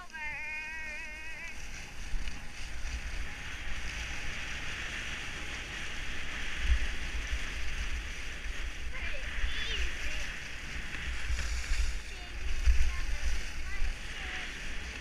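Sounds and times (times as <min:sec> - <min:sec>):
skis hissing on packed snow: 0:00.0 - 0:15.0
wind buffeting microphone: 0:00.0 - 0:15.0.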